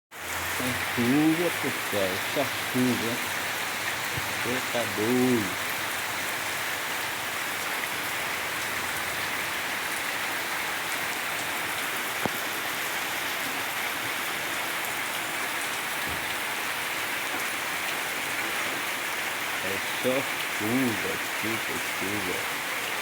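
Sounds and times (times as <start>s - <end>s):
heavy rain pattering: 0.2s - 23.0s.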